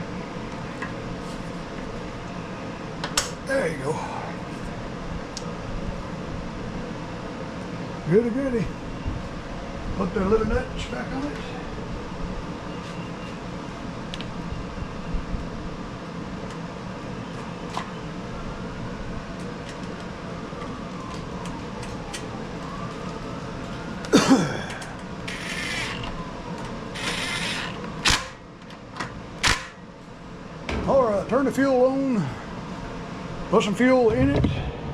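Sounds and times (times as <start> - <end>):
low shop hum: 0.0 - 34.9.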